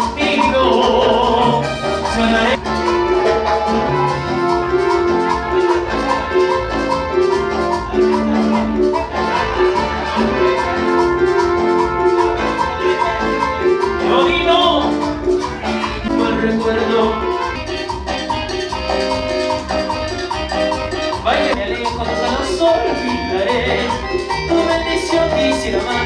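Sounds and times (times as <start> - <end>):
upbeat latin dance music: 0.0 - 26.0.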